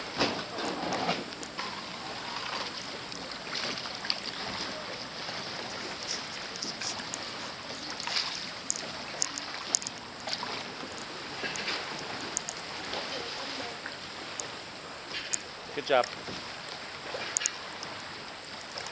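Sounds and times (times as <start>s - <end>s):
paddle strokes splashing: 0.0s - 18.9s
steady hiss: 0.0s - 18.9s
water lapping: 0.0s - 18.9s.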